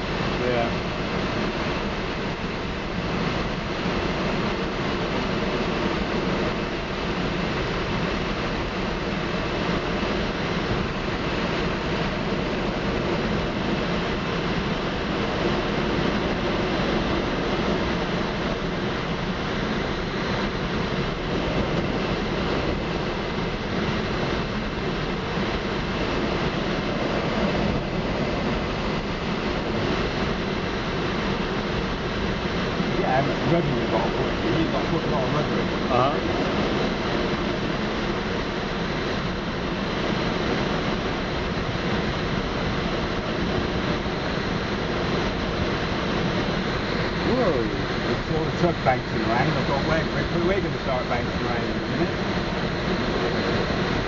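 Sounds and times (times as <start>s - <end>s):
airflow rushing in cockpit: 0.0s - 54.0s
tow plane engine drone: 0.0s - 54.0s.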